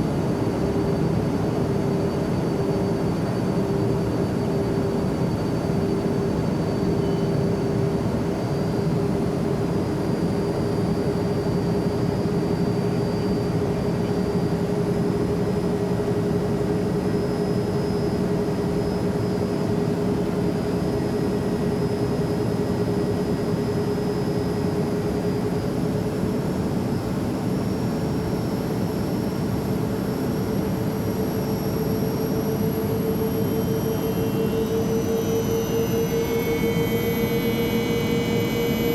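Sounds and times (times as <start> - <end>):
faint high whine: 0.0 - 38.9.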